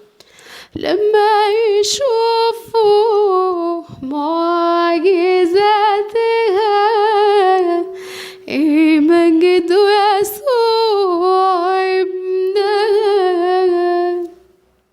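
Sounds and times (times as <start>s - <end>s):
woman singing unaccompanied hymn: 0.0s - 14.5s.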